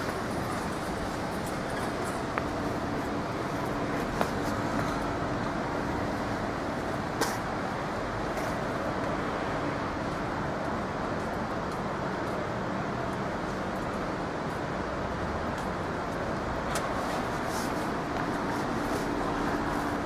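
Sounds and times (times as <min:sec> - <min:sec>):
motor vehicle noise: 0:00.0 - 0:20.0.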